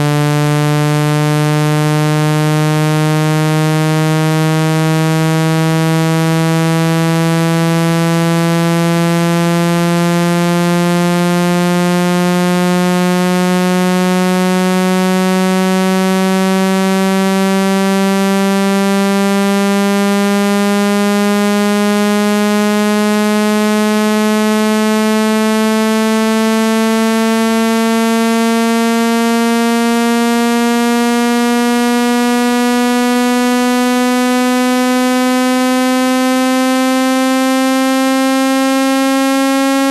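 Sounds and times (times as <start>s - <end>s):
buzzy rising low tone: 0.0s - 39.9s.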